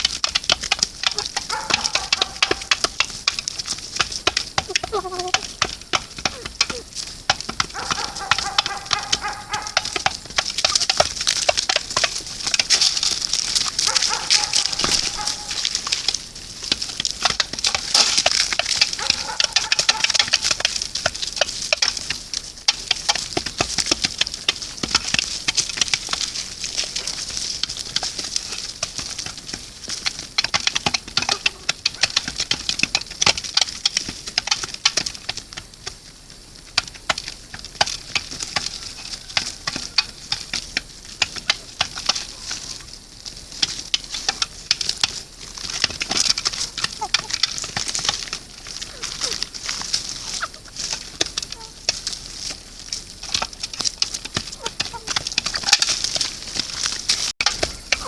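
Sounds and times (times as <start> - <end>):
crackling and rustling in dry litter: 0.0 - 58.0.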